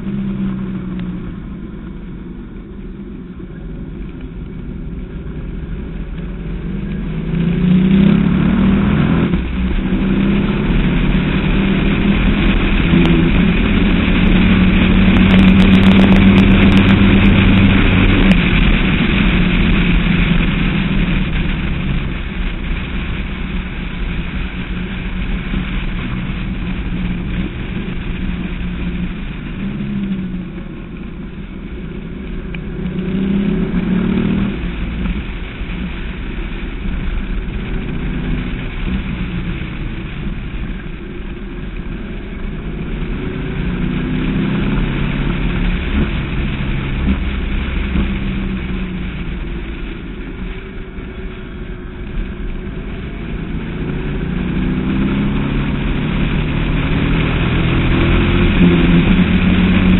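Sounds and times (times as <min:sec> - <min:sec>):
car engine at speed: 0:00.0 - 0:59.9
road rumble: 0:00.0 - 0:59.9
wind noise: 0:00.0 - 0:59.9.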